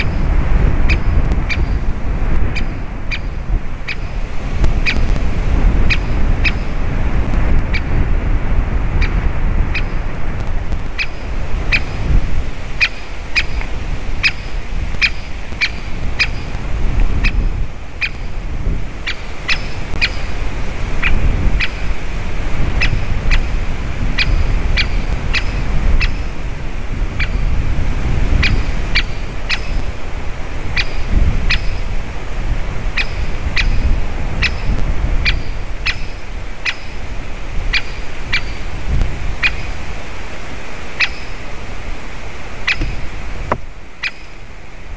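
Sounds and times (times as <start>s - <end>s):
woodpecker call notes: 0.0s - 1.9s, 2.5s - 6.8s, 7.7s - 8.0s, 9.0s - 10.1s, 10.8s - 22.0s, 22.7s - 27.6s, 28.3s - 30.0s, 30.7s - 32.0s, 32.8s - 38.7s, 39.3s - 39.9s, 40.9s - 41.6s, 42.5s - 44.5s.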